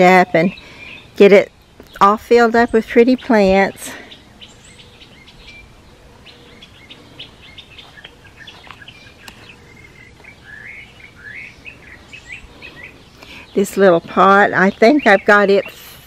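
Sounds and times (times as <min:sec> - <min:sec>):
slurred sweeping bird notes: 0:00.0 - 0:15.8
songbirds chirping: 0:00.0 - 0:16.0.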